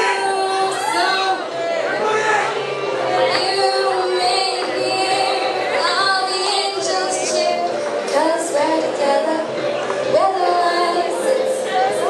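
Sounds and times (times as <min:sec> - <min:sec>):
music with high singing voices: 0:00.0 - 0:12.0.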